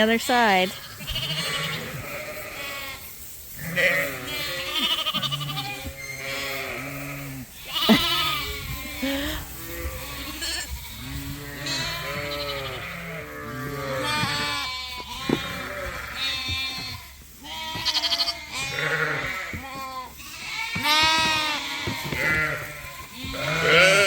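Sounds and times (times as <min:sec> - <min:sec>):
sheep and lambs bleating: 0:00.3 - 0:24.0.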